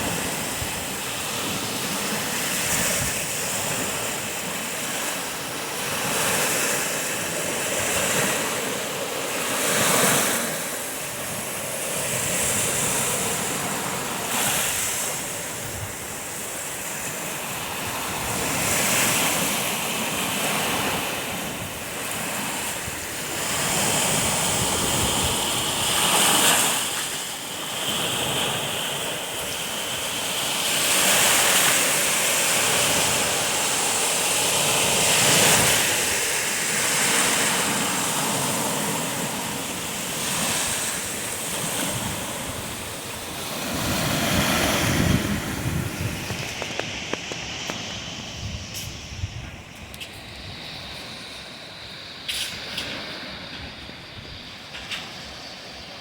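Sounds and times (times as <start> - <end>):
surf washing onto beach: 0.0 - 56.0.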